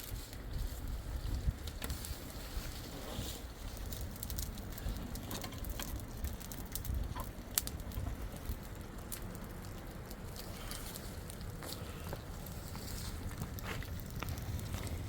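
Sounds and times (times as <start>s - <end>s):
sharp crackles and clicks: 0.0s - 15.0s
steady low rumble: 0.0s - 15.0s.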